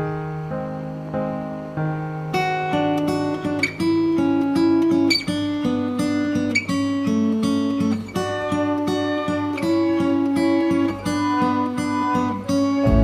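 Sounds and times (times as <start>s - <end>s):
acoustic guitar picking melody: 0.0s - 13.0s.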